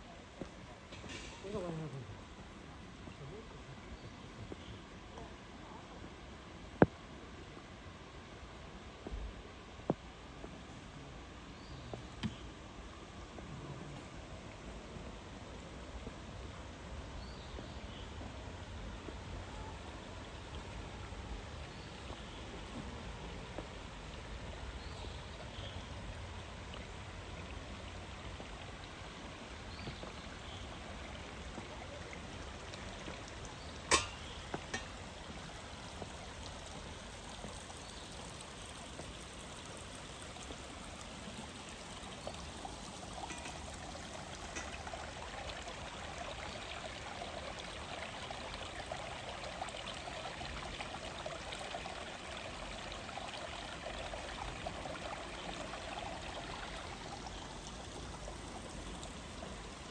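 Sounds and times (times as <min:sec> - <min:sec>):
stream flowing and trickling: 0:00.0 - 0:59.9.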